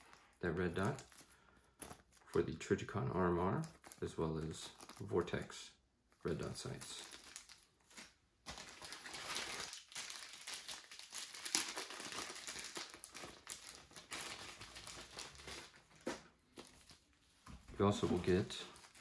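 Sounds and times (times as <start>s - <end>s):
packaging crinkling: 0.0s - 2.4s, 3.6s - 5.2s, 6.3s - 17.1s, 18.3s - 19.0s.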